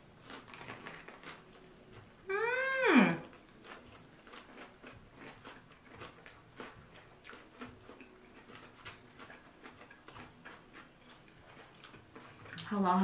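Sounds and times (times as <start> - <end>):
people chewing spring rolls: 0.0 - 13.0.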